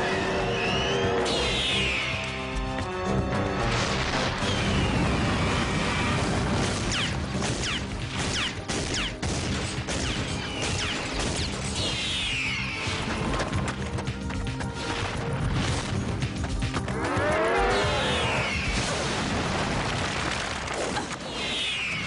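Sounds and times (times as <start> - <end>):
dramatic action music: 0.0 - 22.0.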